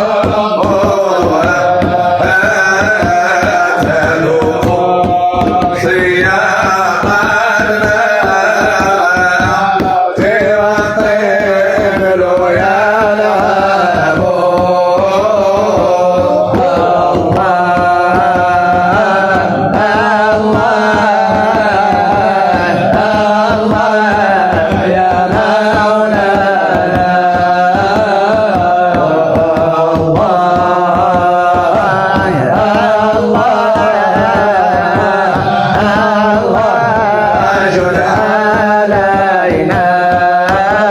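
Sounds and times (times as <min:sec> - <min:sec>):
hand drum beats: 0:00.0 - 0:40.9
steady drone: 0:00.0 - 0:40.9.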